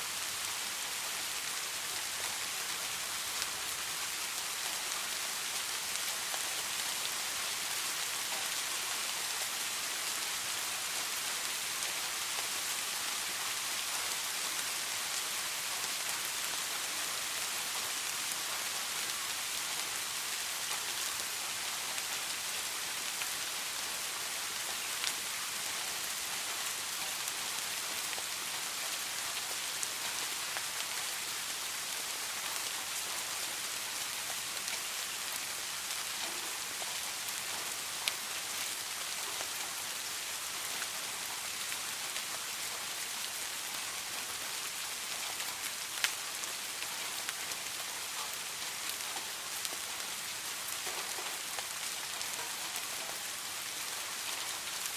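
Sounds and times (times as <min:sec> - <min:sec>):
soft rain pattering: 0:00.0 - 0:54.9.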